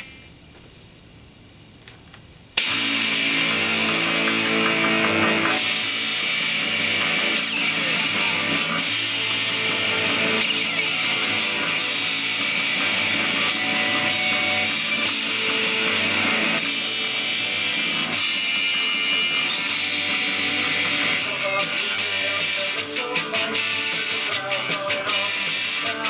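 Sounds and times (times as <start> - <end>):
electric guitar strumming chords: 2.6 - 26.0.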